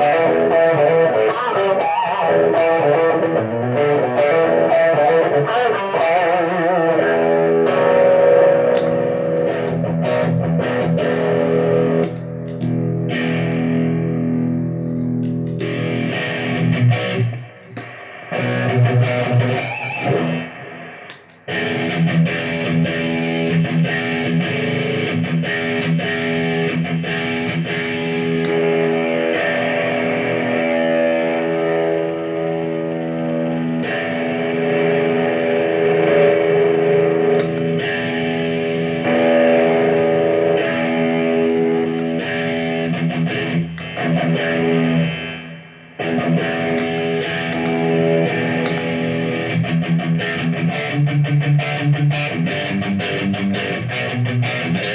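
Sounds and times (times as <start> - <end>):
electric guitar playing: 0.0 - 54.9.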